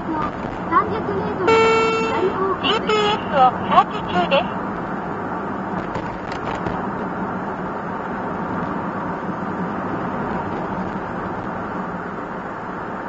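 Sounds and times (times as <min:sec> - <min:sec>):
van engine and road noise: 0:00.0 - 0:13.0.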